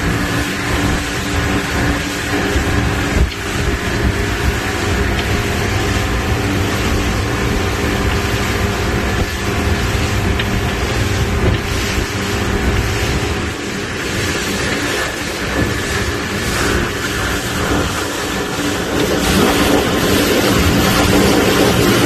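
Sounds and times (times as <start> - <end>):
boat engines droning: 0.0 - 22.0
water rushing past hull: 0.0 - 22.0
wind on microphone: 0.0 - 22.0.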